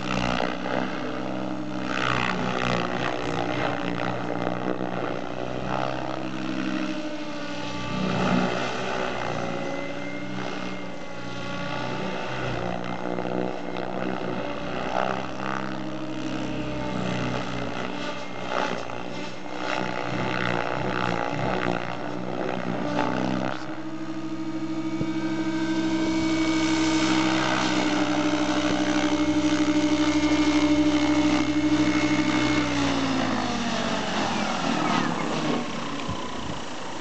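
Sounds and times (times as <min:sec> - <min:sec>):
rc helicopter rotor and motor: 0:00.0 - 0:37.0.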